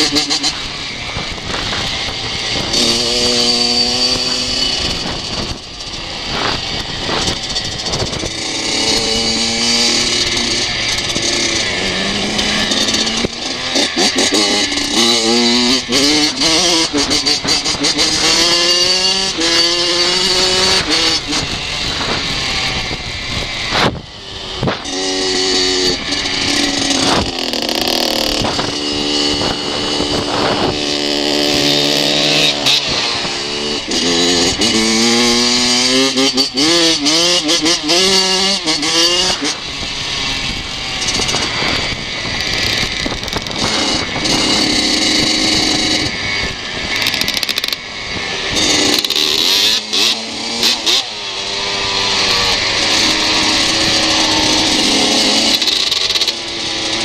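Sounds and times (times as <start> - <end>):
two-stroke motocross engine revving: 0.0 - 57.0.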